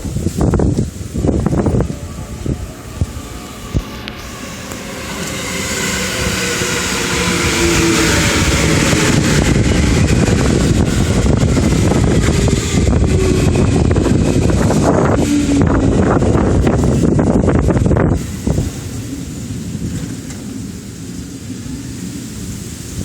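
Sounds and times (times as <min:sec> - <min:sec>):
electric train running: 0:00.0 - 0:23.0.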